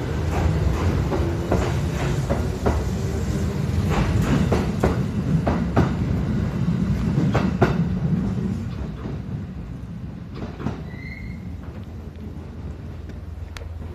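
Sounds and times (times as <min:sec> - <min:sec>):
electric train rumbling: 0:00.0 - 0:13.9
wheels clacking over rail joints: 0:00.0 - 0:13.9.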